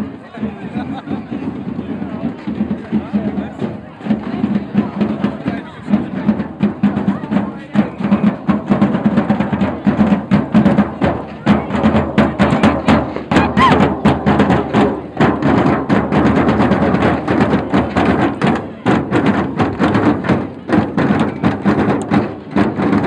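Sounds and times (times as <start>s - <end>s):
crowd voices: 0.0s - 23.0s
drums beating fast rhythm: 0.0s - 23.0s.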